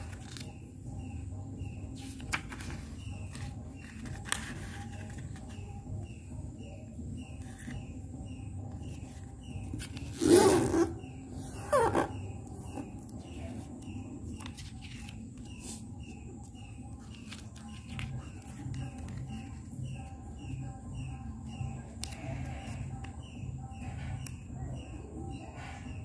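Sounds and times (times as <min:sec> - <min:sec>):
small bird chirping: 0:04.7 - 0:26.0.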